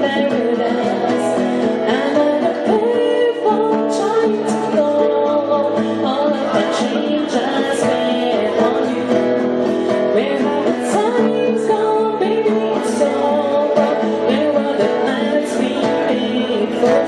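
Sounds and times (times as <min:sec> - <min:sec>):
person singing: 0:00.0 - 0:17.0
strummed acoustic guitar: 0:00.0 - 0:17.0.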